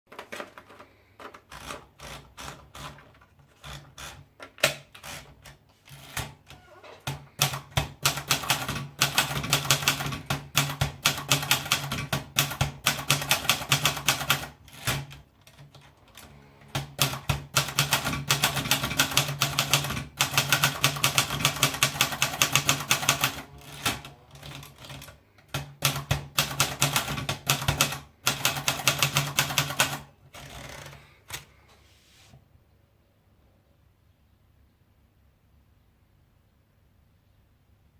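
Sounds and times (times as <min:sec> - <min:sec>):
manual typewriter keys clacking: 0:00.1 - 0:31.5.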